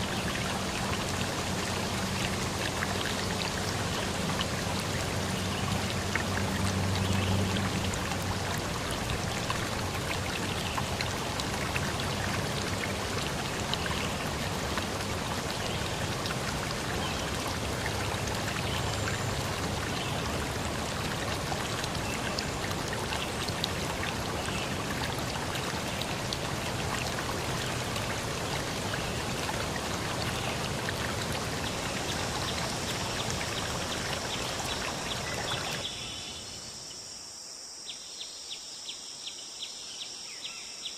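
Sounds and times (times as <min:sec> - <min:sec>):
water rushing over rocks: 0:00.0 - 0:35.9
small water splashes: 0:00.0 - 0:36.4.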